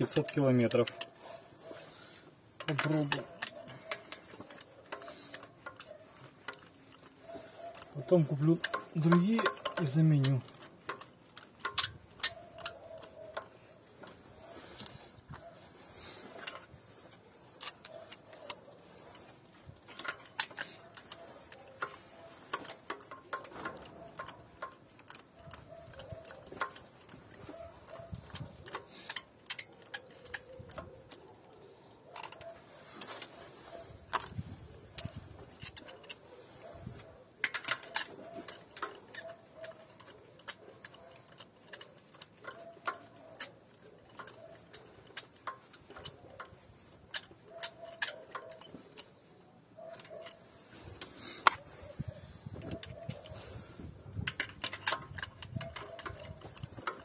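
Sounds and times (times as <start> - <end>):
metallic clicks of socket wrench: 0.0 - 1.2, 2.6 - 15.0, 16.3 - 32.7, 34.1 - 57.0.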